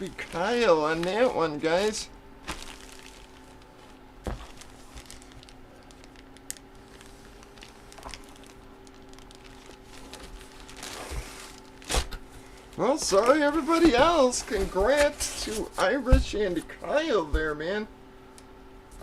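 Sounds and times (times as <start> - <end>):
packaging crinkling: 0.0 - 15.8
faint steady hum: 0.0 - 19.0.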